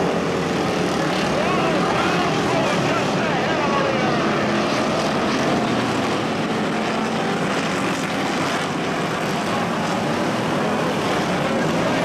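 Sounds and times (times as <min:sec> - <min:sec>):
many racing car engines: 0:00.0 - 0:12.0.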